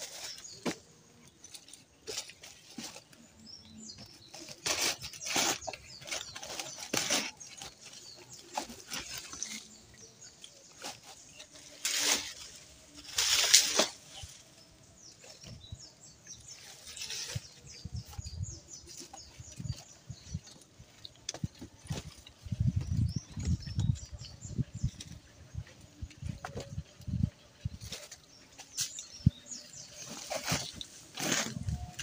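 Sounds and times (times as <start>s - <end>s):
sack and leaves rustling: 0.0s - 24.0s, 27.7s - 32.0s.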